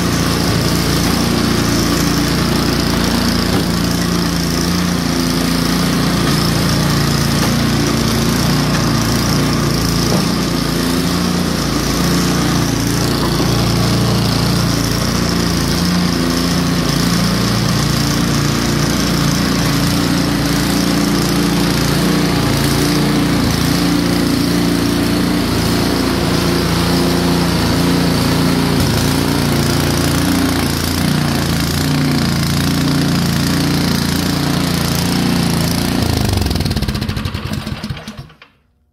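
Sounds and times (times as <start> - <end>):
snow blower engine running: 0.0 - 38.6.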